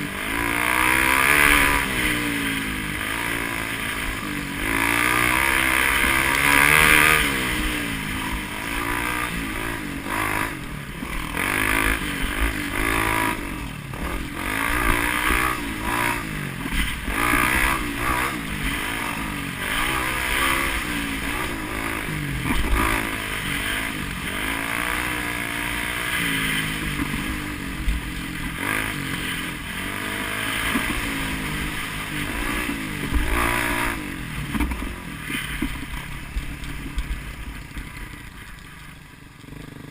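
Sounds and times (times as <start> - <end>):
vehicle engine revving: 0.0 - 38.6.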